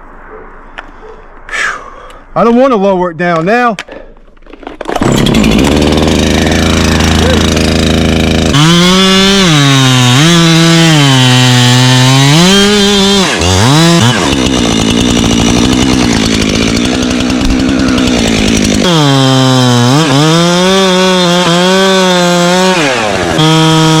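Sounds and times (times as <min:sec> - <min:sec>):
chainsaw cutting wood: 0:04.6 - 0:24.0.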